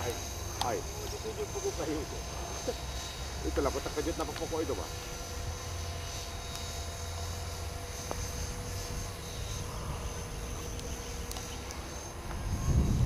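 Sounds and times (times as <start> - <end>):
rc helicopter motor whine: 0.0 - 13.0.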